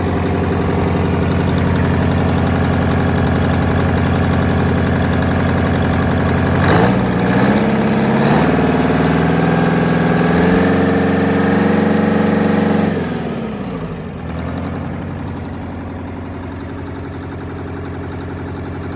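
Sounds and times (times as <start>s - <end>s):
diesel engine revving and idling: 0.0s - 18.9s.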